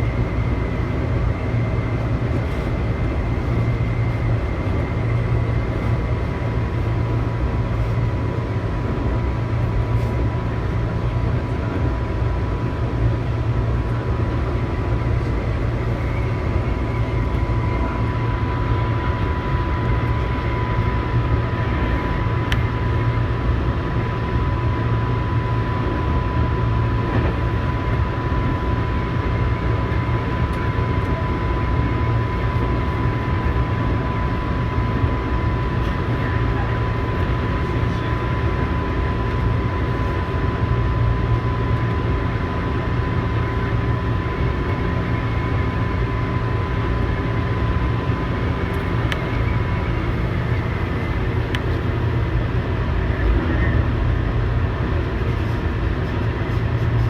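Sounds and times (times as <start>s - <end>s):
thin steady whine: 0.0s - 57.0s.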